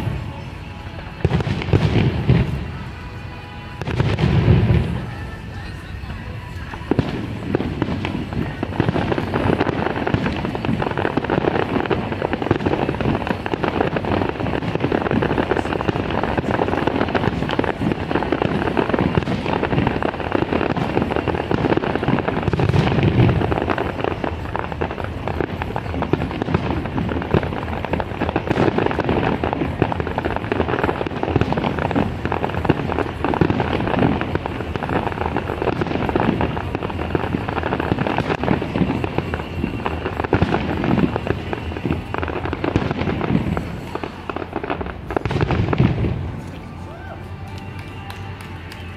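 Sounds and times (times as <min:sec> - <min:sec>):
fireworks bangs and crackles: 0:00.0 - 0:48.9
heavy low firework boom: 0:01.2 - 0:02.8, 0:03.8 - 0:05.2, 0:06.9 - 0:46.5.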